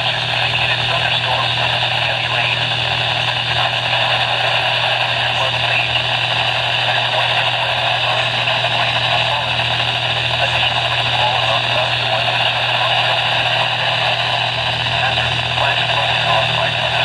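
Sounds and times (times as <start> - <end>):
low hum: 0.0 - 17.0
radio static hiss: 0.0 - 17.0.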